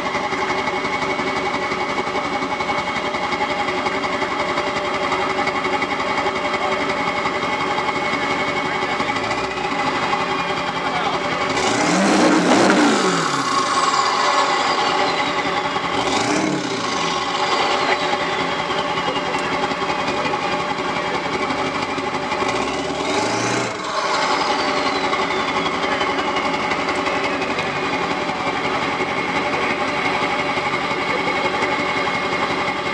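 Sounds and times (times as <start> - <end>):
clattering engine idle: 0.0 - 32.9
diesel engine revving: 0.0 - 32.9
turbo whine: 0.0 - 32.9.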